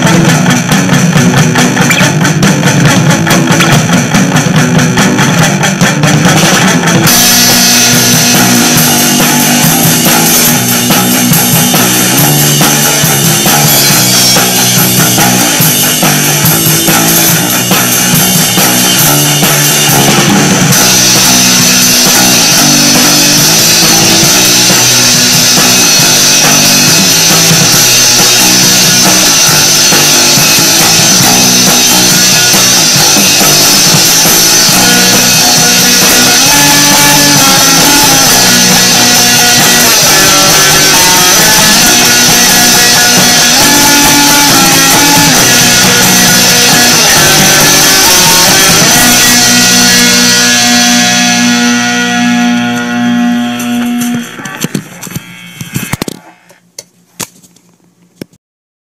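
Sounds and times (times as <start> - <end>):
punk rock band playing: 0.0 - 56.0.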